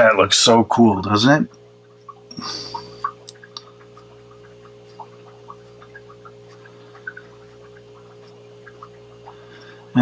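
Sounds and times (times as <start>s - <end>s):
low hum: 1.1s - 10.0s.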